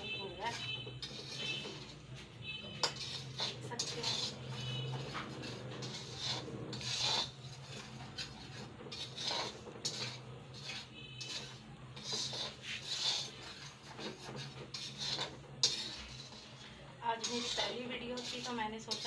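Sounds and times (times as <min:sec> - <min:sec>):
metal spatula scraping semolina: 0:00.0 - 0:19.0.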